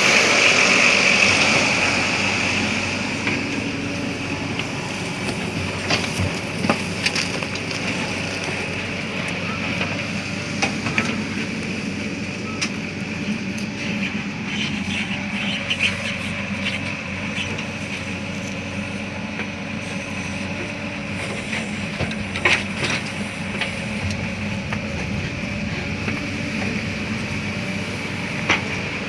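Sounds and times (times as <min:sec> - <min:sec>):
diesel engines running: 0:00.0 - 0:29.0.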